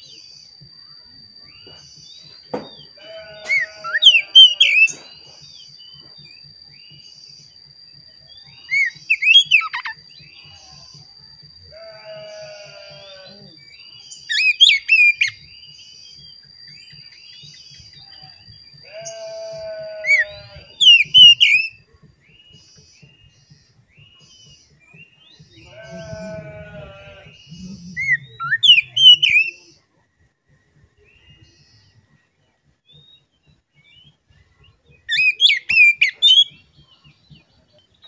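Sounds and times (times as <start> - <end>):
bird singing whistled notes: 0.0 - 30.0, 30.6 - 38.0
thin steady high tone: 0.0 - 33.7.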